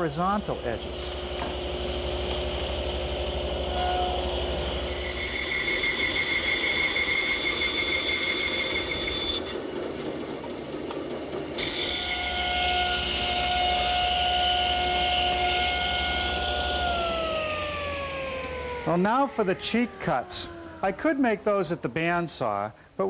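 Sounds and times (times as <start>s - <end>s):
table saw running: 0.0s - 9.9s, 10.9s - 20.8s.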